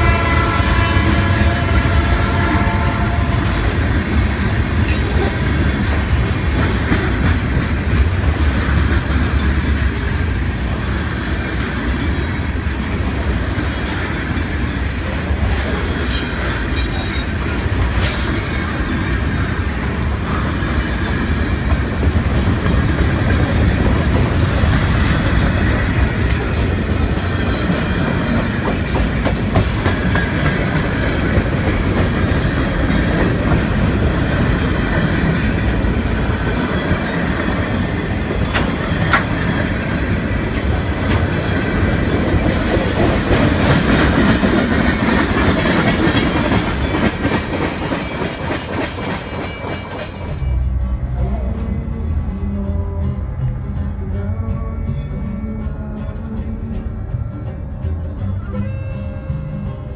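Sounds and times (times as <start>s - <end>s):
train wheels rumbling and clattering: 0.0s - 54.8s.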